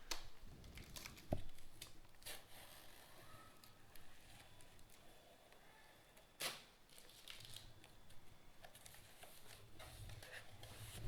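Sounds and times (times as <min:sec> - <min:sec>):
soft rustles of packaging: 0:00.0 - 0:11.0.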